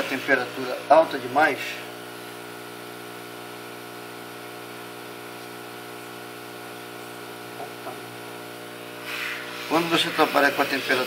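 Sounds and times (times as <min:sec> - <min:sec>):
hot air blower hissing: 0:00.0 - 0:11.0.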